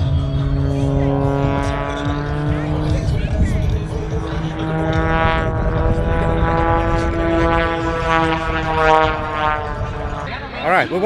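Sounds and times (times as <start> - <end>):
propeller airplane engine droning: 0.0 - 11.0.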